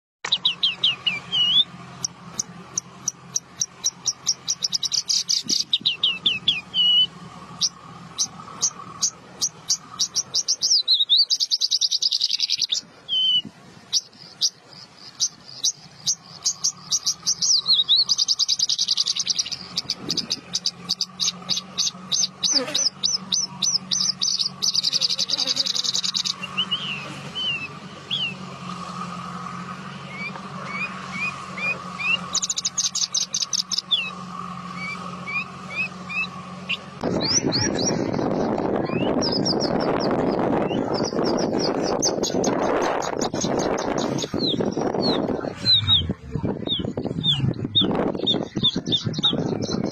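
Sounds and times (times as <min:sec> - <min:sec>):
lark singing fast trills: 0:00.3 - 0:49.9.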